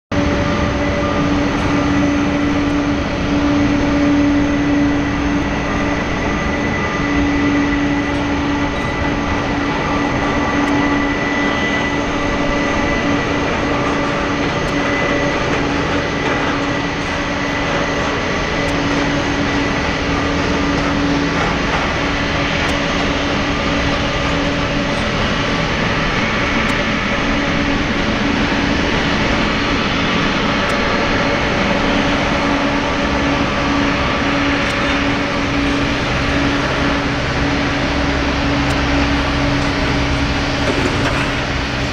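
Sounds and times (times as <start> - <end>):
constant engine whine: 0.0 - 41.9
jet engines idling roar: 0.1 - 41.9.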